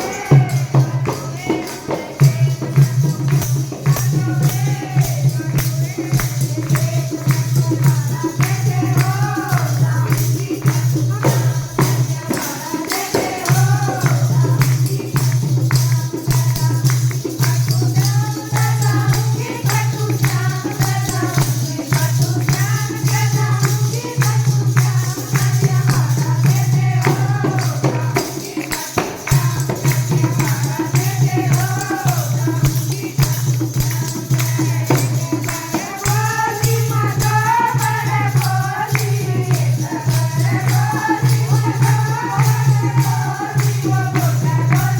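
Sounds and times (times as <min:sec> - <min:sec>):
fast percussion strokes: 0:00.0 - 0:44.9.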